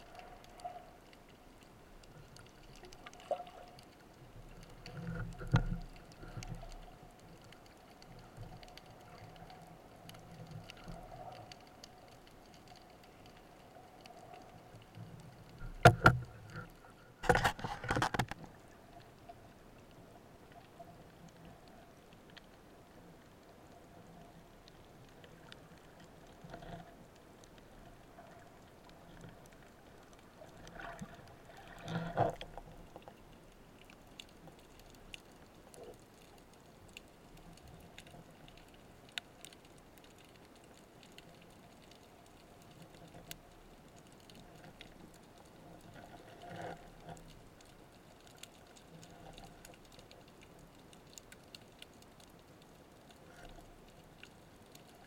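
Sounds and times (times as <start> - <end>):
muffled rushes of water: 0.0 - 55.0
tiny clicks and crackle: 0.0 - 55.0.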